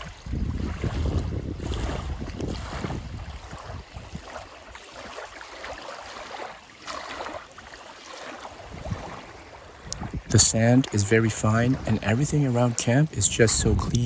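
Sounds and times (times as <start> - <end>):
wind buffeting microphone: 0.0 - 6.5, 7.1 - 14.0
light breeze: 0.0 - 14.0
small waves lapping: 0.0 - 14.0.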